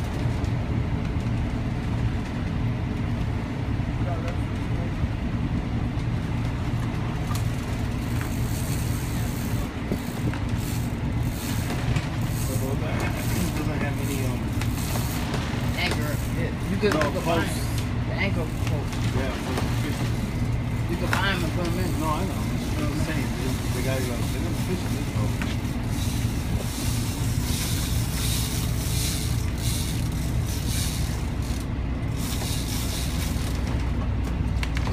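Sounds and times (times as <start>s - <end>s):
boat engine droning: 0.0s - 34.9s
wind: 0.0s - 34.9s
water noise: 6.2s - 34.9s.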